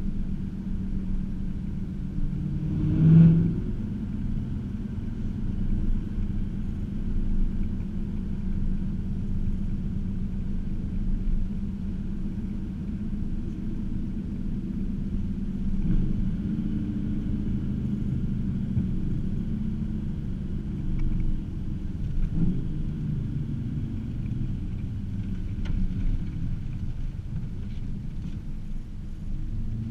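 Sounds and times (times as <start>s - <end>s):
car exhaust drone from inside cabin: 0.0s - 29.9s.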